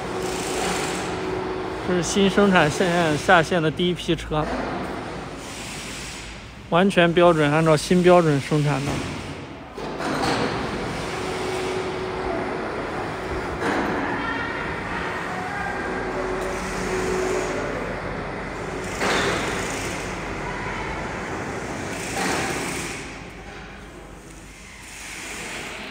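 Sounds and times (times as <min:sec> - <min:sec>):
background traffic noise: 0:00.0 - 0:25.9.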